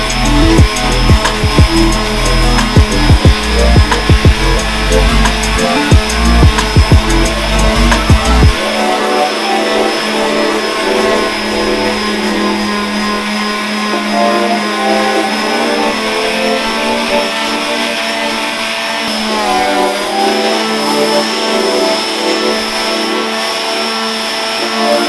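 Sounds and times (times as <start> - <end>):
electric sander running: 0.0 - 25.0.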